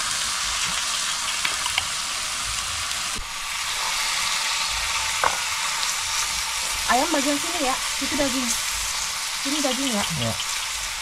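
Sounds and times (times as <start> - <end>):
meat sizzling on a grill pan: 0.0 - 11.0.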